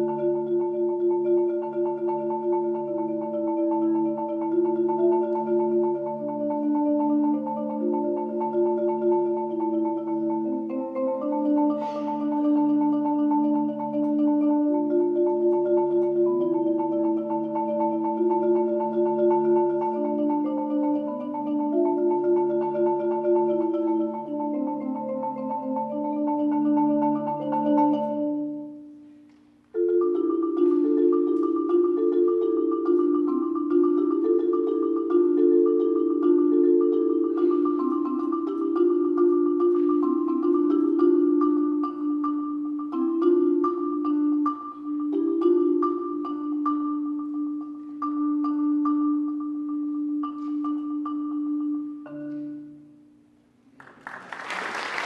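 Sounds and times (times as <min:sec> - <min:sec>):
marimba playing: 0:00.0 - 0:53.1.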